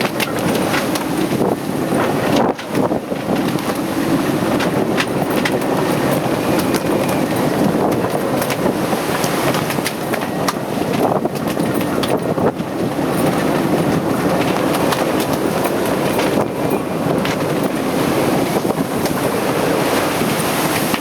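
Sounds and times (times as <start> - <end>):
knocks and rattles: 0.0 - 19.3
strong wind buffeting microphone: 0.0 - 21.0.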